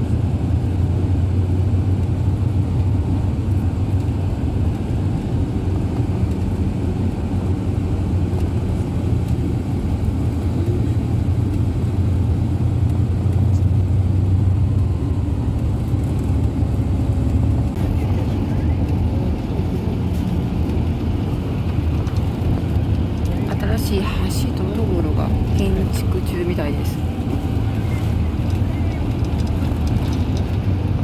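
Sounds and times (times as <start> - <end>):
coach engine and tyres droning: 0.0 - 31.0.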